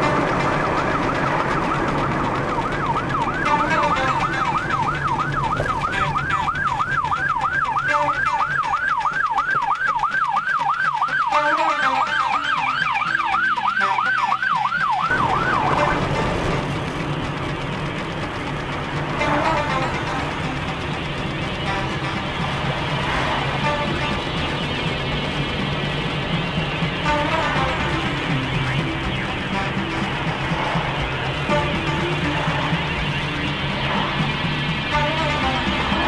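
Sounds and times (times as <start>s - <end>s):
ambulance siren yelp: 0.0s - 16.8s, 19.2s - 36.0s
road and engine hum: 0.0s - 36.0s.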